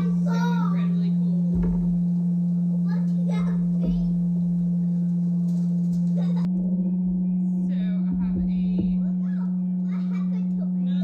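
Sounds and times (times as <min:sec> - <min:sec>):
cream separator motor humming: 0:00.0 - 0:11.0.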